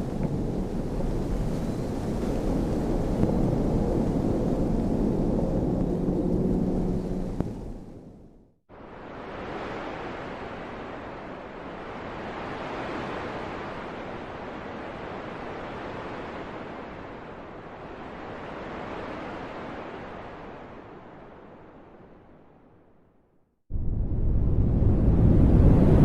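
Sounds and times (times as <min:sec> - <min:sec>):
wind blowing: 0:00.0 - 0:22.8, 0:23.7 - 0:26.0.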